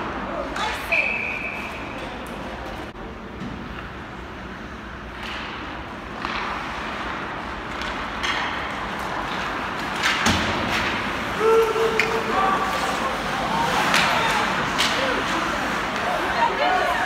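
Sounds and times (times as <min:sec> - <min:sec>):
ice rink background noise: 0:00.0 - 0:17.0.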